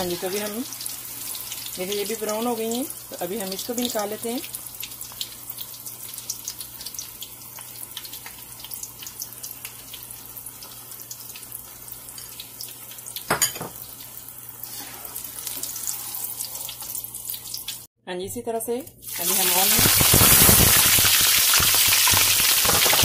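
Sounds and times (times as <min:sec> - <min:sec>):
vegetables deep-frying in oil: 0:00.0 - 0:17.9, 0:19.0 - 0:23.0.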